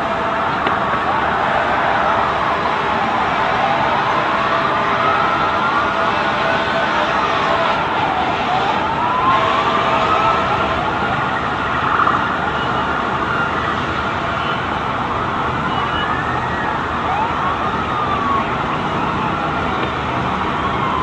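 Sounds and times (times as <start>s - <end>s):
emergency sirens wailing: 0.0s - 21.0s
street noise: 0.0s - 21.0s.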